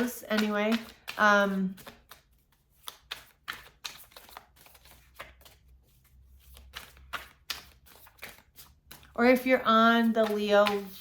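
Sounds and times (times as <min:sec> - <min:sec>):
cards being shuffled by hand: 0:00.0 - 0:11.0.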